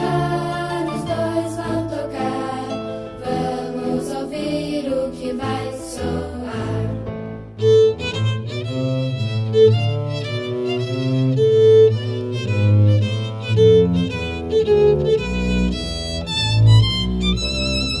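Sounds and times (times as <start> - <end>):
double bass bowed bass line: 0.0 - 18.0
violin melody: 0.0 - 18.0.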